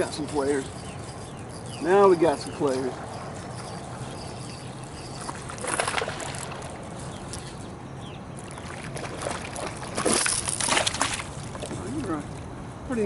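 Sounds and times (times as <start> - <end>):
water splashing and sloshing: 2.3 - 13.0.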